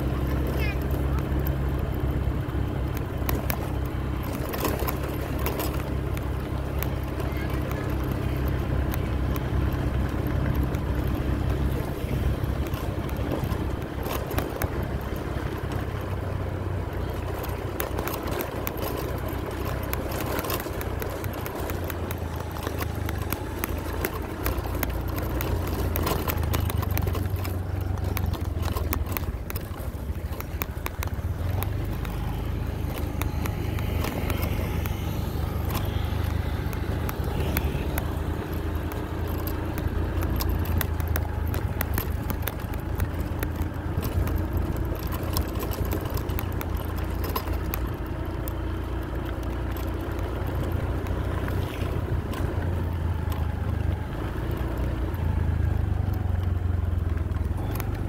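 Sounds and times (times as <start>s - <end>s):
road rumble: 0.0s - 58.0s
vehicle engine drone: 0.0s - 58.0s
vehicle knocks and rattles: 0.3s - 56.4s.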